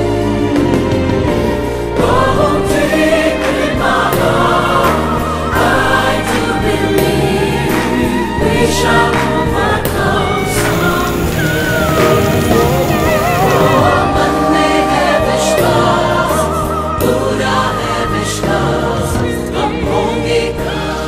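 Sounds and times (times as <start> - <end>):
group of voices singing: 0.0 - 21.0.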